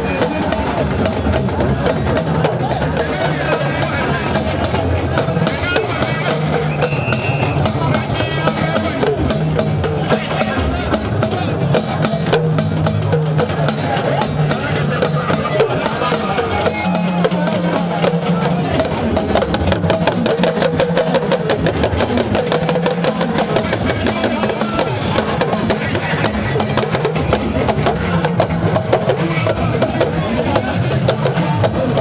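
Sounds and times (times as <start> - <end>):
crowd voices: 0.0 - 32.0
talking drums beaten with sticks: 0.0 - 32.0.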